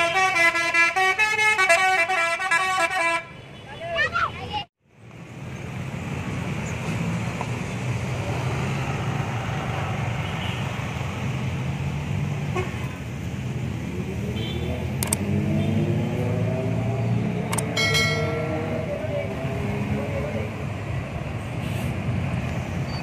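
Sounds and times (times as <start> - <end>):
bus engines running: 0.0 - 23.0.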